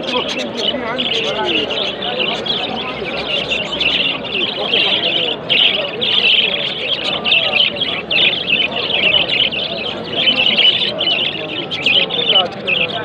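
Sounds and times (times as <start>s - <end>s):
murmur of voices: 0.0s - 13.0s
songbirds chirping and singing: 0.0s - 13.0s.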